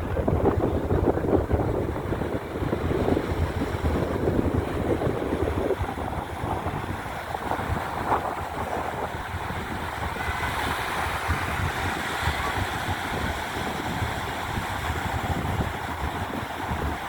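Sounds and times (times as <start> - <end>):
sea waves: 0.0 - 17.0
wind buffeting microphone: 0.0 - 17.0.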